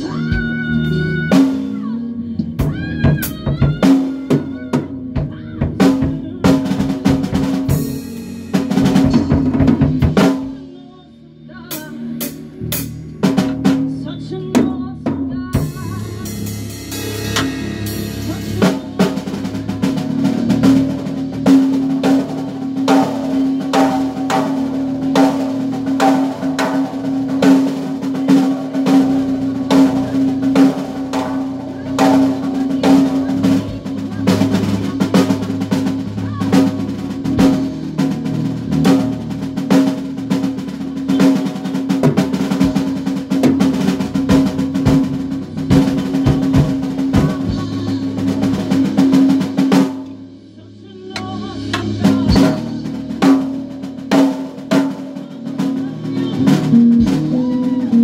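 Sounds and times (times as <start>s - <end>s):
band playing: 0.0s - 10.8s, 11.7s - 58.0s.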